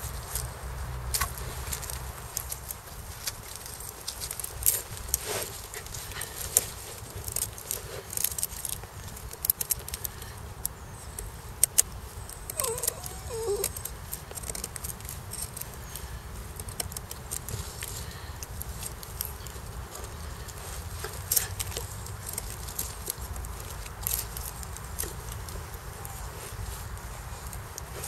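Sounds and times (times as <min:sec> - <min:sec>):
knife shaving wooden stick: 0:01.2 - 0:28.0.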